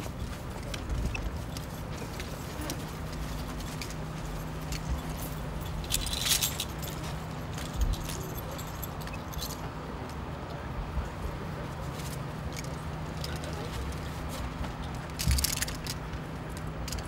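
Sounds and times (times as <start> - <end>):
metal gear clinking and jangling: 0.0 - 9.8, 12.0 - 17.0
trucks idling hum: 0.0 - 17.0.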